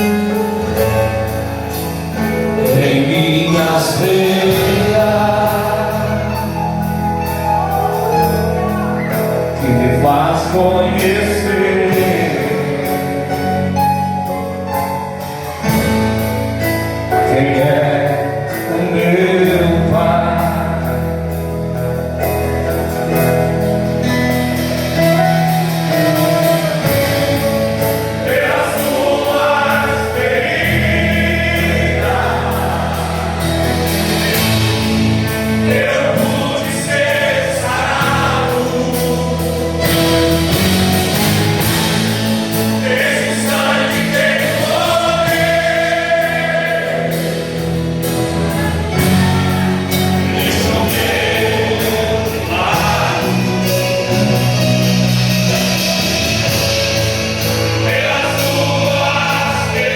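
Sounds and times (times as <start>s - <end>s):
band accompaniment: 0.0s - 59.9s
voices singing worship song: 0.0s - 59.9s.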